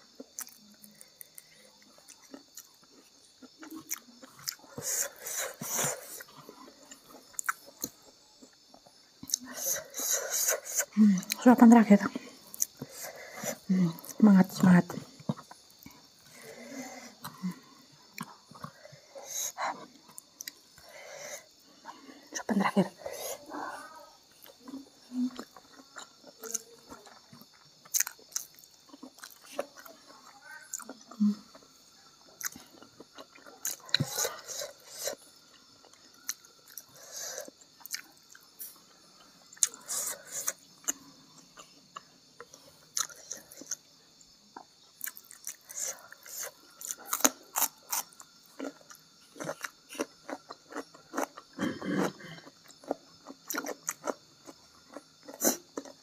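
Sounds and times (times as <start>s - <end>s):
person chewing with wet clicks: 0.1s - 14.2s, 19.5s - 21.0s, 24.3s - 56.0s.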